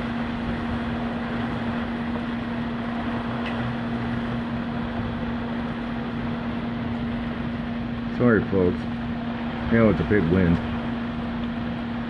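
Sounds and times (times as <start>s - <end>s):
low hum: 0.0s - 12.0s
storm wind: 0.0s - 12.0s
torrential rain: 0.0s - 12.0s.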